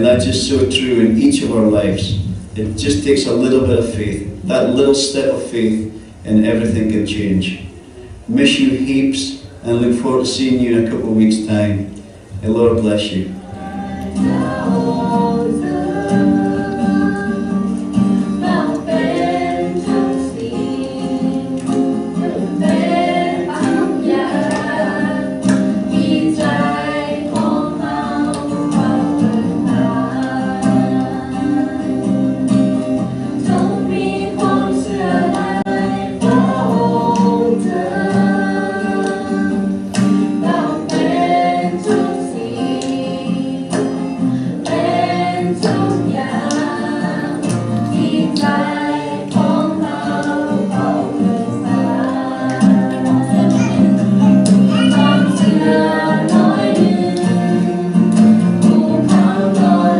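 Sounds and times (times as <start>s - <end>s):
group singing worship song: 0.0s - 59.9s
strummed guitar: 0.0s - 59.9s.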